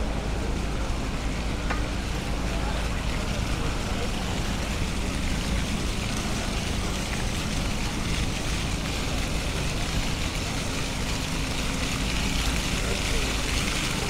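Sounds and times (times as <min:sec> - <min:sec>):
constant rushing noise: 0:00.0 - 0:14.0.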